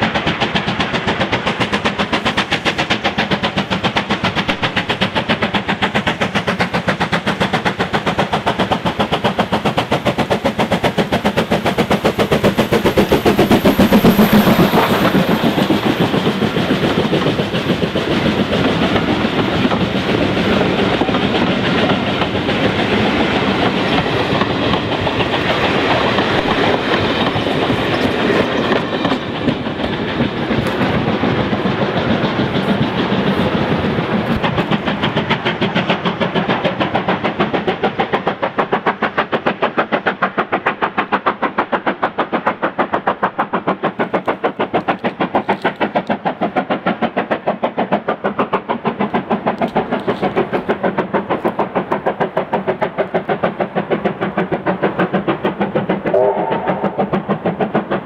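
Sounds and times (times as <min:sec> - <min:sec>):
wheels clicking over rail joints: 0:00.0 - 0:56.2
steam locomotive exhaust beating: 0:00.0 - 0:58.0.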